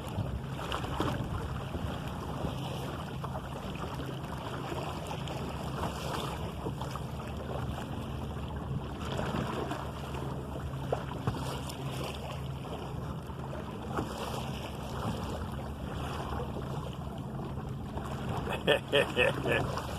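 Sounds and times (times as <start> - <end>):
water splashing along hull: 0.0 - 19.9.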